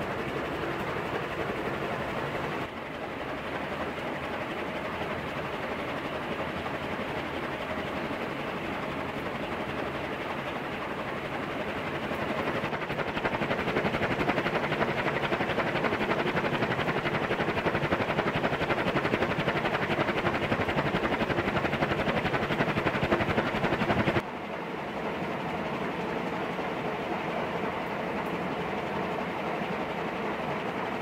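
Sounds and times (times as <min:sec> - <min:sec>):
ceiling fan air rushing: 0:00.0 - 0:31.0.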